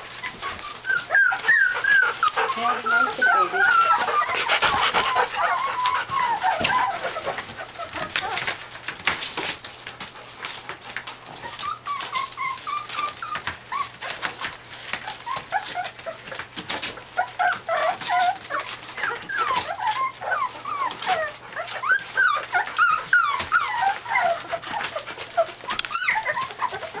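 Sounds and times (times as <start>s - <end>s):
puppies squeaking and whimpering: 0.0s - 27.0s
scratching on newspaper: 1.3s - 27.0s.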